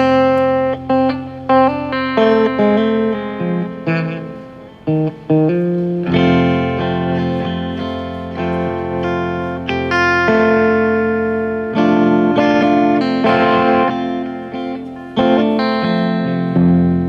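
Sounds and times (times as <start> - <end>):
guitar ringing chords: 0.0 - 17.0.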